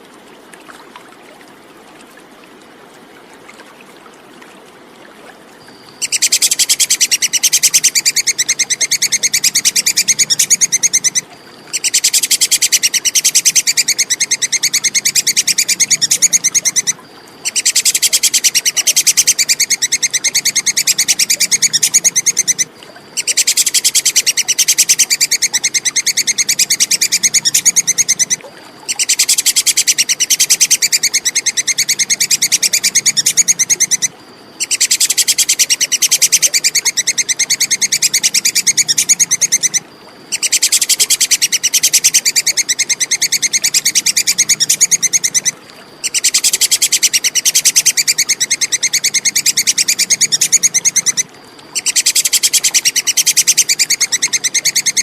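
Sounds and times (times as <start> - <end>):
squirrel chattering call: 6.0 - 55.0.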